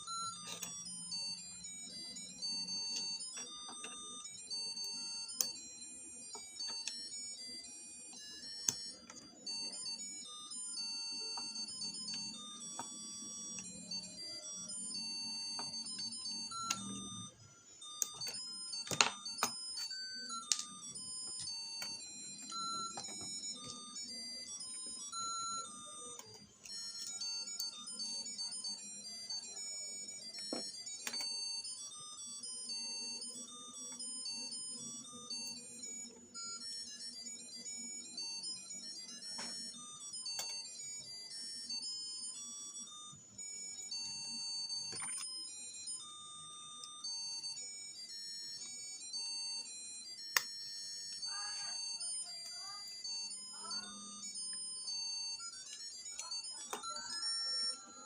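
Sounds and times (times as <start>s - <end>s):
tinny beeping electronic melody: 0.0s - 58.0s.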